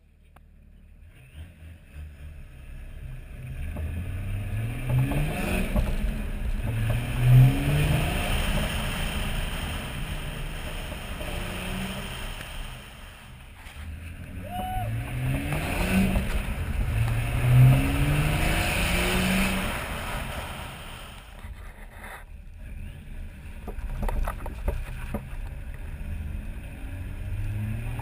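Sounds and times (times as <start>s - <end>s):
car engine accelerating: 0.3s - 21.6s, 22.3s - 28.0s.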